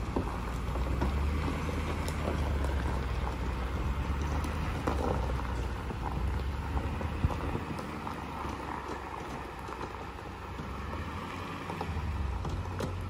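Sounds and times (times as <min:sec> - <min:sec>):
pickup truck engine rumbling: 0:00.0 - 0:13.0.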